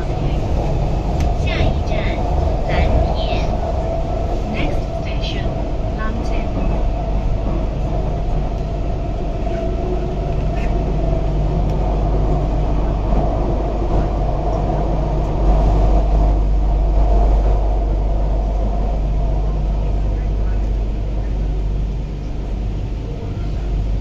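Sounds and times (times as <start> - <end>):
metro train wheels rumbling: 0.0 - 24.0.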